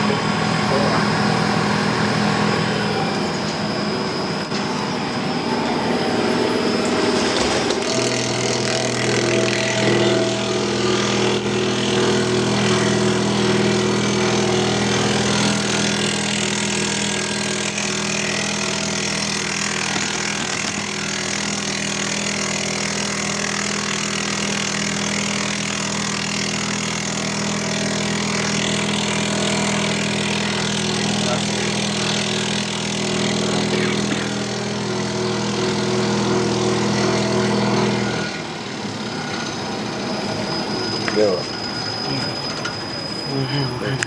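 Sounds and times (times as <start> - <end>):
cutting machine motor hum: 0.0 - 42.8.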